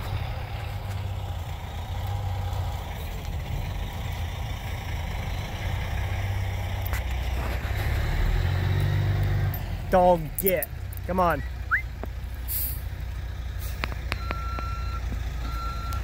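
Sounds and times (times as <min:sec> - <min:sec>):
loader diesel engine drone: 0:00.0 - 0:16.0.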